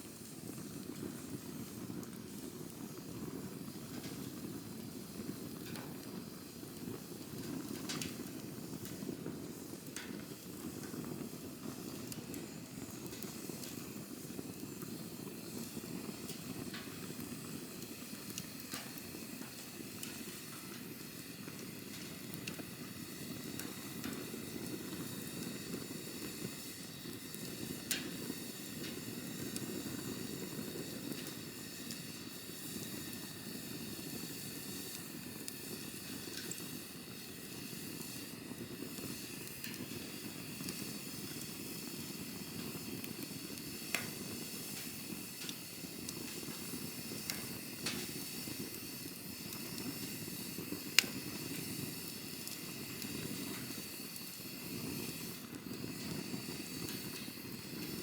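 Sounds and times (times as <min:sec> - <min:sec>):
campfire flames rushing: 0:00.0 - 0:58.0
fire crackling and popping: 0:00.0 - 0:58.0.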